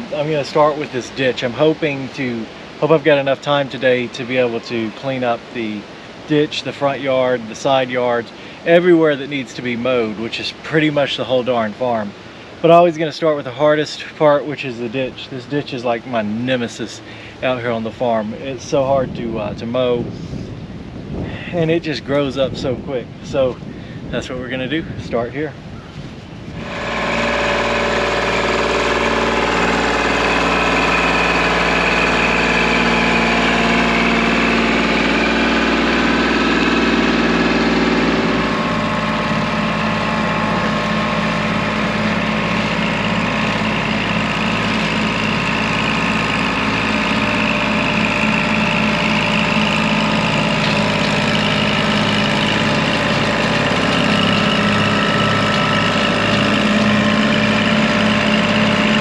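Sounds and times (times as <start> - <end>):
tractor diesel engine running: 0.0 - 20.0, 26.3 - 59.0.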